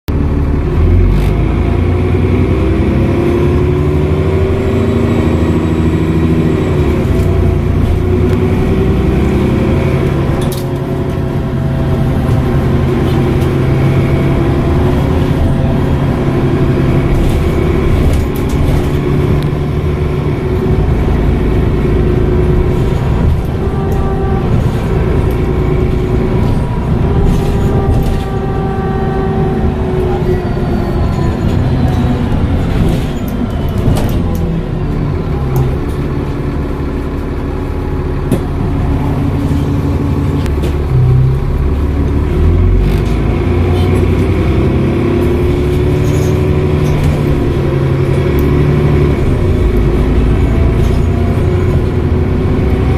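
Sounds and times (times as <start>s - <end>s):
bus diesel engine: 0.0s - 52.9s.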